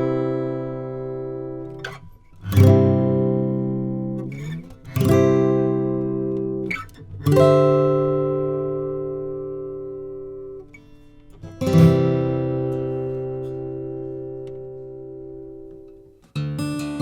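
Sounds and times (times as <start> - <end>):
strummed chords ringing: 0.0 - 17.0.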